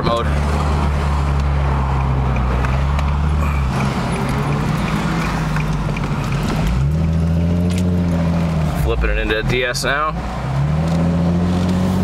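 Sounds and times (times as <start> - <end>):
car engine drone in cabin: 0.0 - 12.0.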